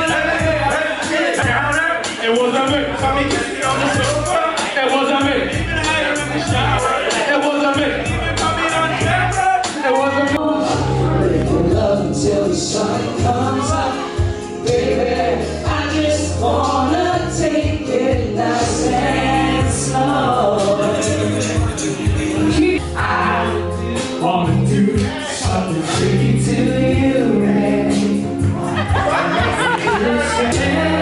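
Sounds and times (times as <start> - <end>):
backing track through speakers: 0.0 - 31.0
people singing karaoke: 0.0 - 31.0.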